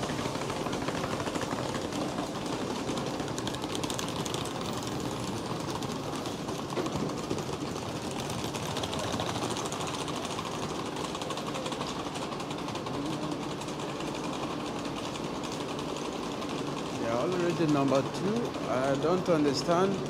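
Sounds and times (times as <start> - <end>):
train and station rumble: 0.0 - 20.0.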